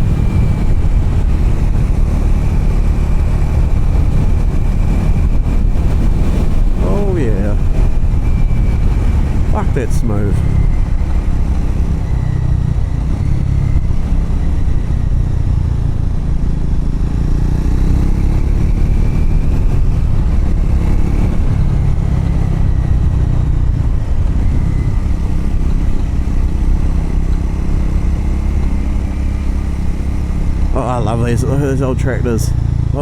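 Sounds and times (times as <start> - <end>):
motorcycle engine running: 0.0 - 33.0
road noise: 0.0 - 33.0.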